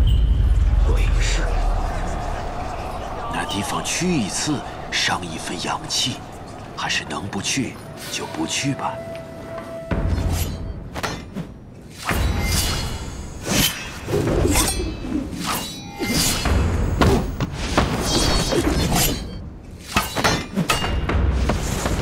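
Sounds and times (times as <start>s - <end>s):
dramatic film score music: 0.0s - 22.0s.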